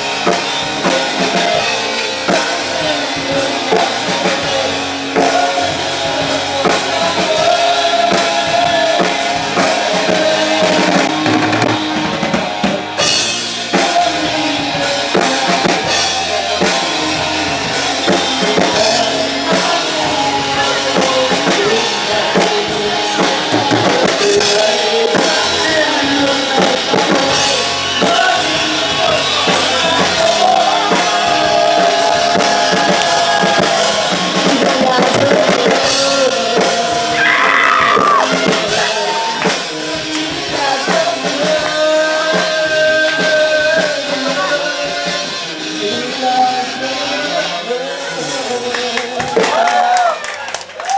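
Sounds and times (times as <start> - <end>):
drum kit: 0.0 - 50.9
rock band playing: 0.0 - 50.9.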